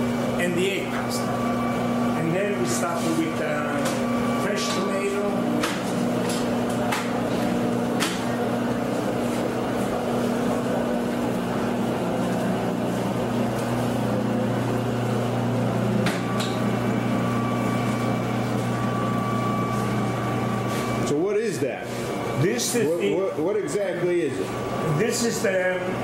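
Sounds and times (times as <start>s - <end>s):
pasta machine motor hum: 0.0s - 26.0s.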